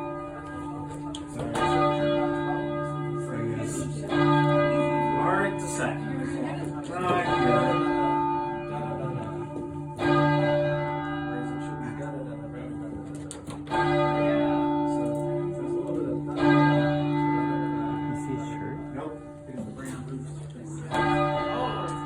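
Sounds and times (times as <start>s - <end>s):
heavy church bell ringing: 0.0s - 22.0s.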